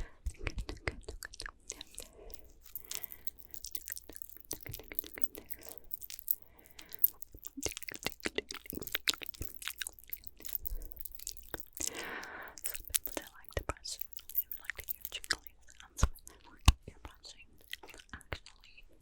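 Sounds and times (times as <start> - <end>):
wet mouth clicks and smacks: 0.2 - 18.8.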